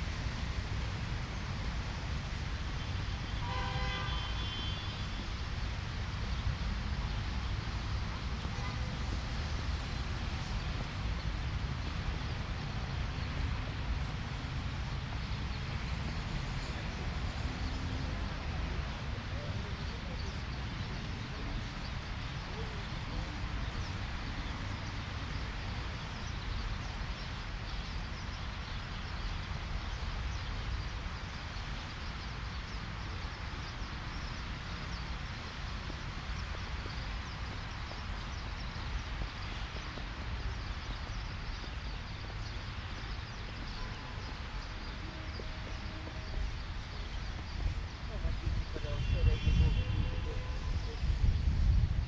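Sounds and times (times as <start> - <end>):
wind buffeting microphone: 5.2 - 52.0.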